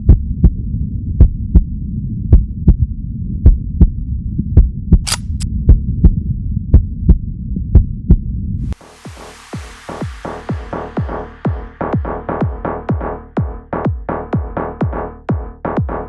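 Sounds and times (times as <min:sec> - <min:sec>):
heartbeat thumps: 0:00.0 - 0:08.4, 0:09.1 - 0:16.0.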